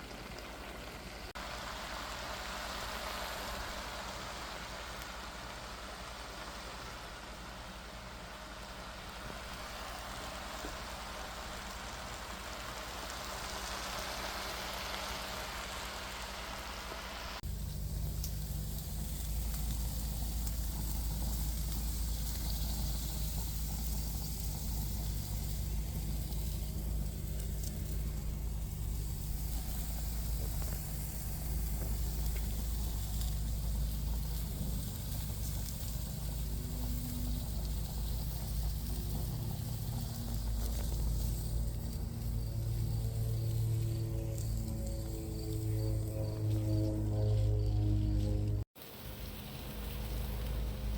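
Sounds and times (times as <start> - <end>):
food sizzling in a frying pan: 0.0 - 45.0, 48.8 - 50.9
low rumble and hum: 0.0 - 50.9.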